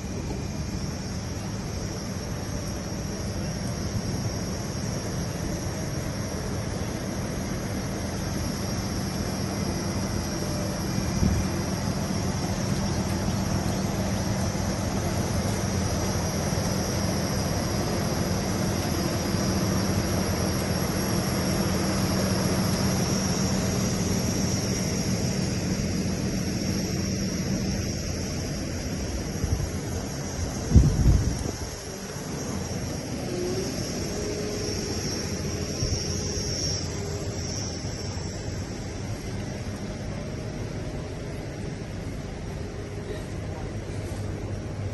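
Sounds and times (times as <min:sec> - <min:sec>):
car engine drone: 0:00.0 - 0:44.9
road noise: 0:00.0 - 0:44.9.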